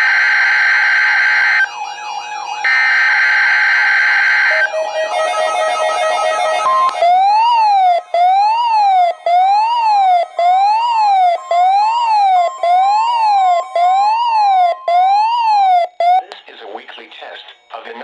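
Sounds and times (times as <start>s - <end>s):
siren from radio speaker: 0.0s - 16.4s.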